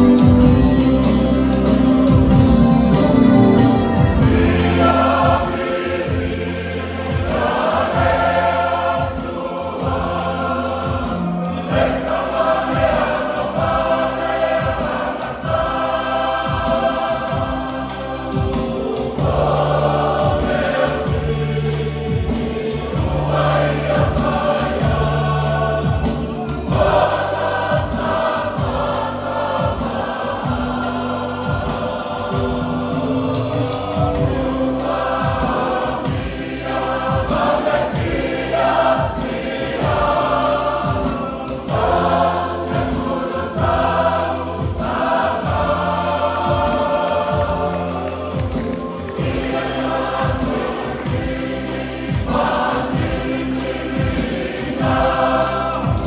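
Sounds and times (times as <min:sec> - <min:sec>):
backing music with bass and beat: 0:00.0 - 0:56.0
choir singing a hymn: 0:00.0 - 0:56.0.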